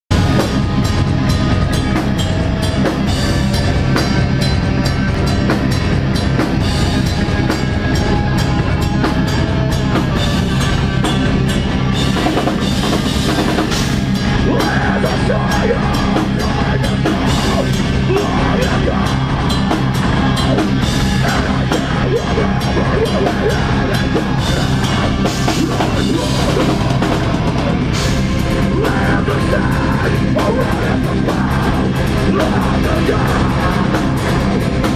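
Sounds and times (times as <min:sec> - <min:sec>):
electric guitars and bass: 0:00.0 - 0:34.9
fast dense drumming: 0:00.1 - 0:34.9.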